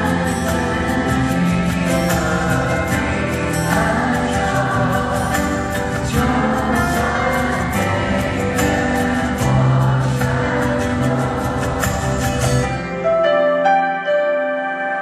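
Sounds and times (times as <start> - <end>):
man singing pop song: 0.0 - 13.1
amplified band playing: 0.0 - 15.0.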